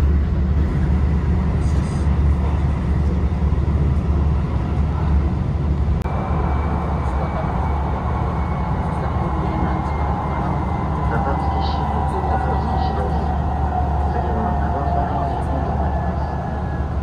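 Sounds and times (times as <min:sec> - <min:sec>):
thin high whine: 0:00.0 - 0:17.0
train wheels rumbling: 0:00.0 - 0:17.0.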